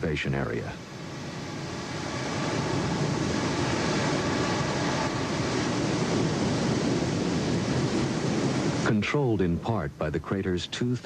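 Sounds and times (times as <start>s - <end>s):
steady low rumbling: 0.0s - 11.0s.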